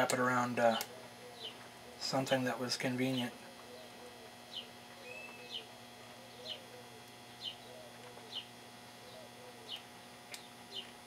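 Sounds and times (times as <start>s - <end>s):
faint steady hum: 0.0s - 11.0s
bird chirping: 0.7s - 2.1s, 3.1s - 11.0s.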